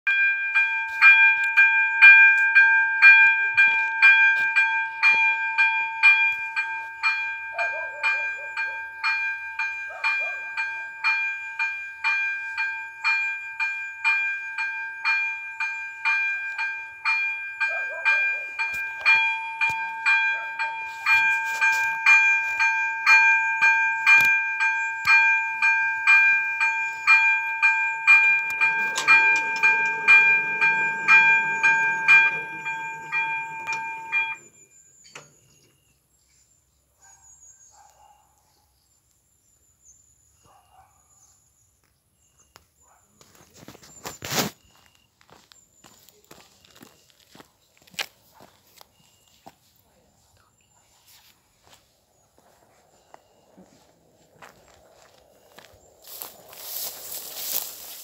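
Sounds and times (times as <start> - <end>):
level crossing warning bell: 0.1 - 35.8, 44.7 - 58.0.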